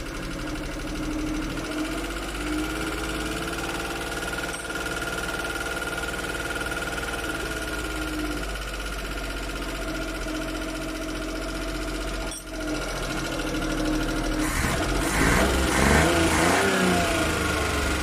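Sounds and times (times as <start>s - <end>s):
engine misfiring and revving: 0.0s - 18.0s.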